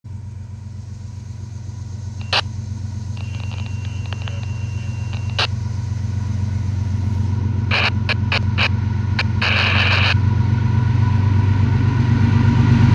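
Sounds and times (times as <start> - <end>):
diesel locomotives rumbling: 0.1 - 12.9.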